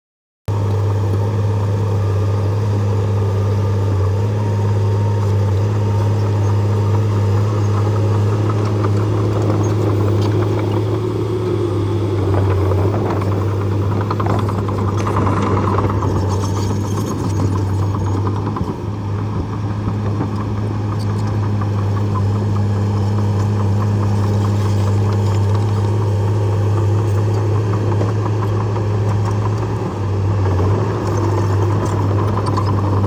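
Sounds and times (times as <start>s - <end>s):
bulldozer diesel engine running: 0.5s - 33.0s.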